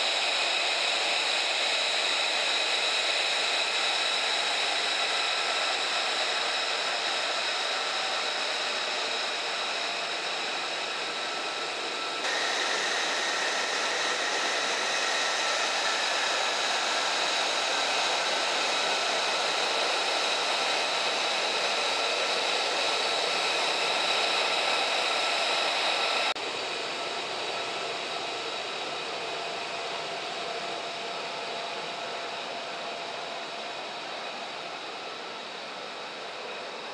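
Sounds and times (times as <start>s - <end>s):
jet engine whine and roar: 0.0s - 36.9s.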